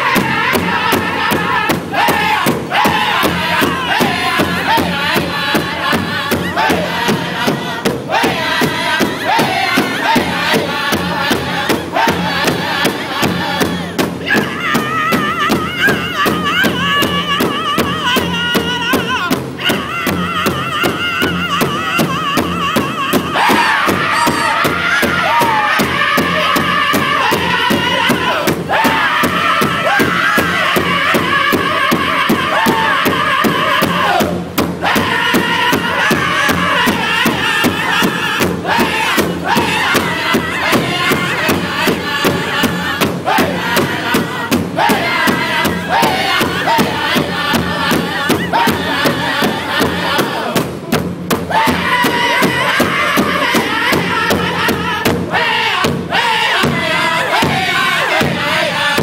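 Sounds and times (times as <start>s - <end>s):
group singing in unison: 0.0s - 59.0s
steady big drum beat: 0.0s - 59.0s.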